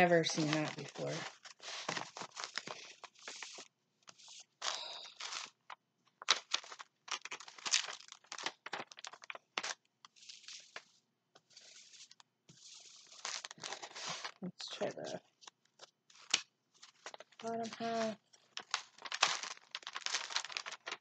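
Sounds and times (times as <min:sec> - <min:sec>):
crinkling of plastic cover: 0:00.0 - 0:21.0.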